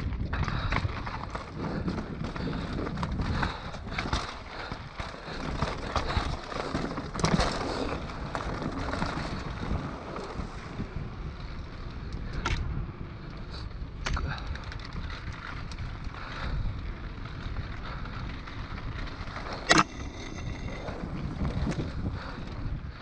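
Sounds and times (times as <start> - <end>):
bike rattling over bumps: 0.0 - 23.0
wind rushing over microphone: 0.0 - 23.0
tyres rolling over dirt and stone: 0.1 - 11.7, 13.4 - 23.0.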